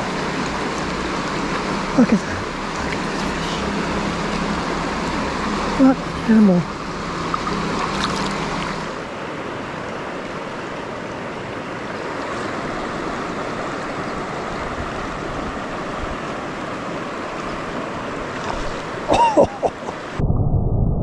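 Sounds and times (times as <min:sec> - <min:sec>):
river water rushing: 0:00.0 - 0:20.2.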